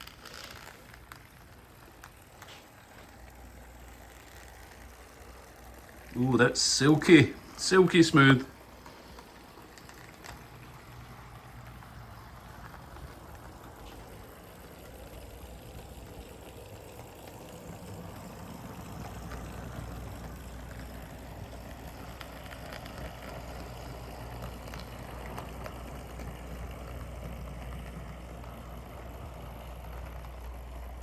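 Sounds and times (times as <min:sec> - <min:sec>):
faint clicks: 0:00.0 - 0:06.2, 0:08.6 - 0:31.0
model locomotive motor hum: 0:00.0 - 0:31.0.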